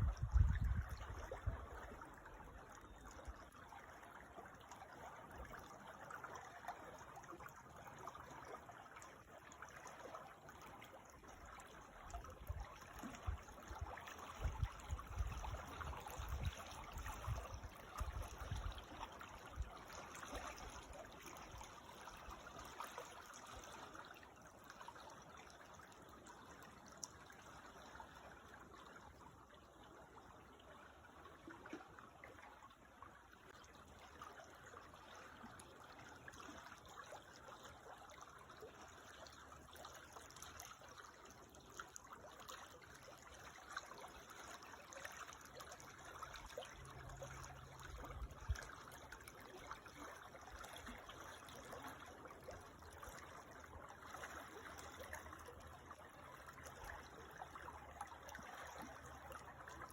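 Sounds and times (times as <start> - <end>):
creek water trickling: 0.0 - 59.9.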